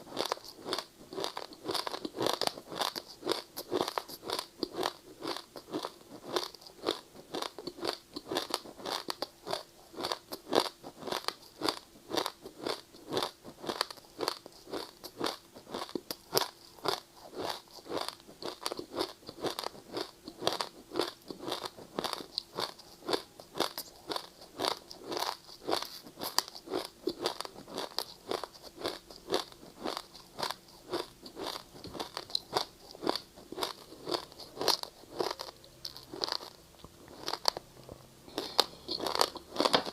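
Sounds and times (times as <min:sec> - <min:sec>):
person crunching ice: 0:00.1 - 0:37.6, 0:38.4 - 0:39.9.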